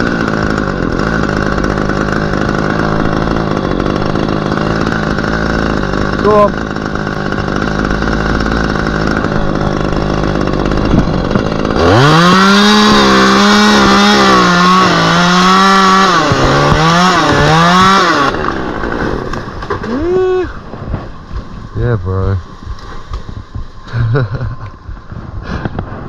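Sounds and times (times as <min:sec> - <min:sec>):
chainsaw engine idling hum: 0:00.0 - 0:22.8, 0:23.4 - 0:25.8
chainsaw cutting wood: 0:00.0 - 0:26.0.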